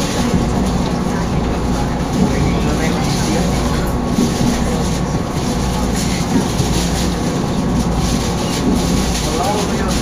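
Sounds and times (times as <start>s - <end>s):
faint voices: 0.0s - 10.0s
train rumbling on track: 0.0s - 10.0s.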